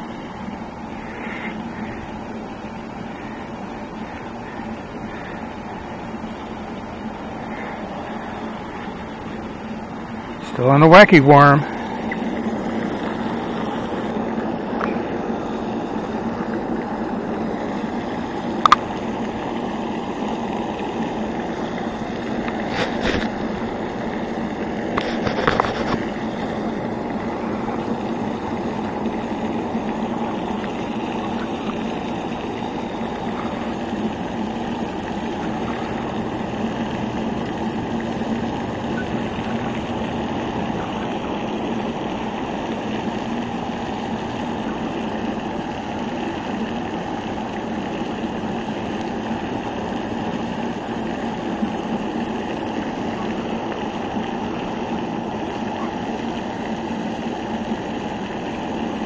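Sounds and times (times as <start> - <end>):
low hum: 0.0 - 59.0
splashing fountain water: 0.0 - 59.0.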